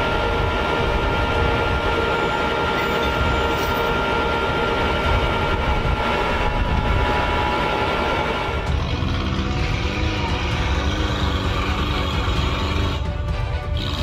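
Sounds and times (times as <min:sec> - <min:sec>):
model winch whining and rumbling: 0:00.0 - 0:14.0.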